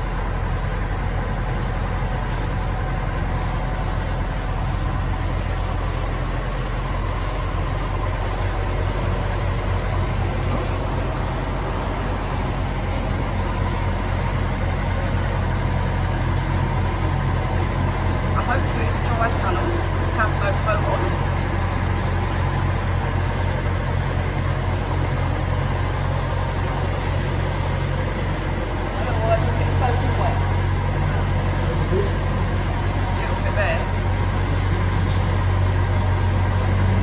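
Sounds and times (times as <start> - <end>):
boat diesel engine in a tunnel: 0.0 - 37.0.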